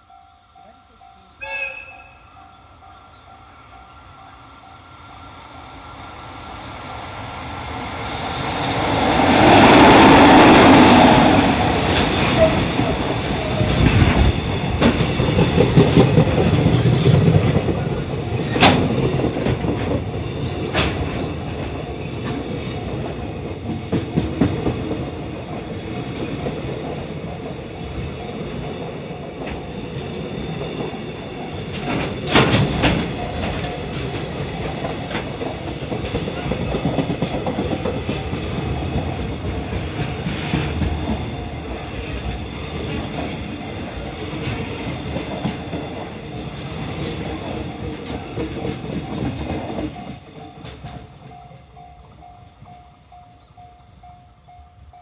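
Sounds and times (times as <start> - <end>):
freight train wheels clattering: 7.5 - 53.4.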